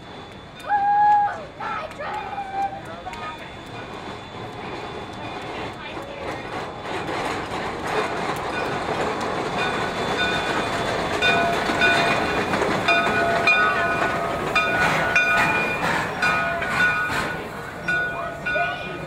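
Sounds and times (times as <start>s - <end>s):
steam train rolling past: 0.0s - 19.0s.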